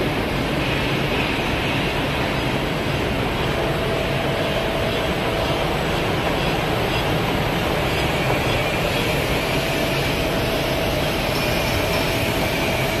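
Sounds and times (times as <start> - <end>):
printing press rumble and hiss: 0.0 - 13.0.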